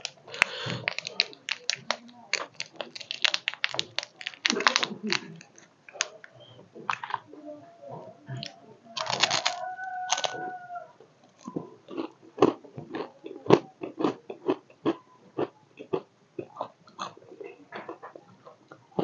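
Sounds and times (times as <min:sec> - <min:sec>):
chips being chewed: 0:00.0 - 0:07.2, 0:08.4 - 0:10.4, 0:11.2 - 0:18.8.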